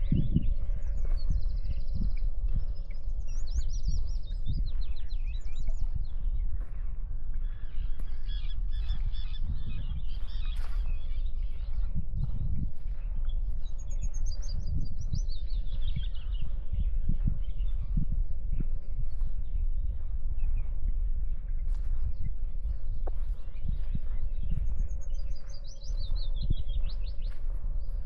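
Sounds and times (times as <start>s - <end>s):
soft footsteps: 0.0s - 28.0s
songbirds singing: 0.0s - 28.0s
wind rumble: 0.0s - 28.0s.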